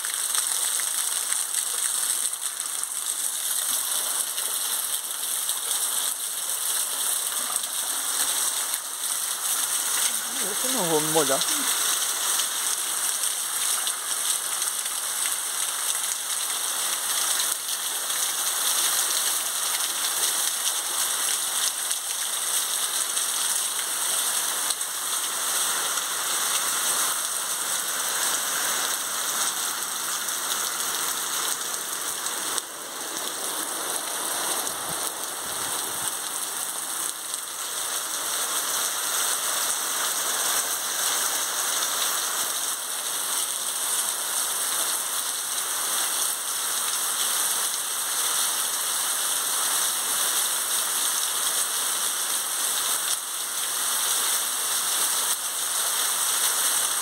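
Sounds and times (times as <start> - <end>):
heavy rain on concrete: 0.0 - 57.0.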